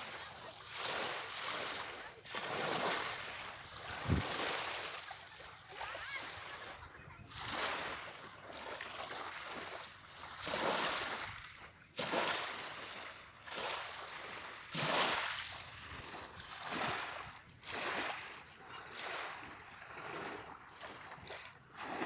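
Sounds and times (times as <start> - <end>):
small waves washing onto beach: 0.0 - 22.0.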